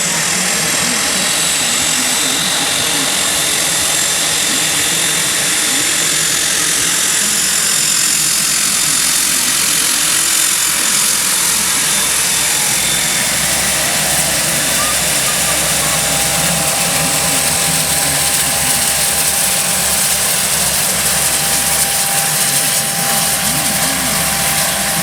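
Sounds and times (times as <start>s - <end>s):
turboprop engines whining: 0.0s - 25.0s.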